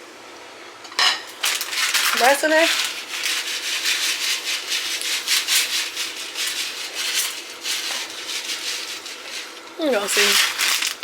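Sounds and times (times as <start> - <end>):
rice grains scraping in a pot: 1.4 - 11.0.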